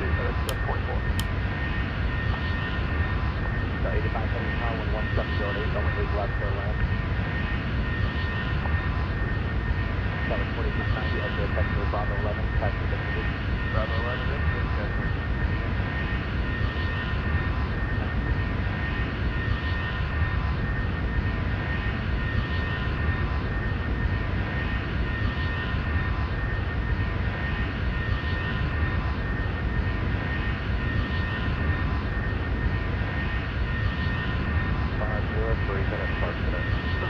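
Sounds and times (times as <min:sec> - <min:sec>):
jet engines rumbling: 0:00.0 - 0:37.0
thin steady whine: 0:00.0 - 0:37.0.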